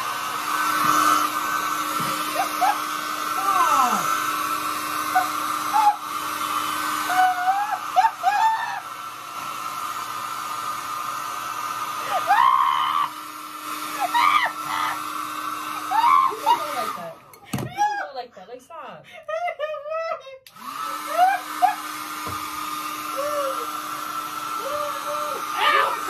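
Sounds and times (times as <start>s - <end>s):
hair dryer humming: 0.0s - 18.1s, 20.4s - 26.0s.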